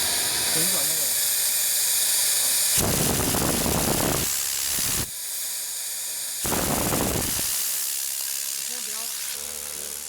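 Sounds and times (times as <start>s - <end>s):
vacuum cleaner hissing: 0.0s - 10.0s.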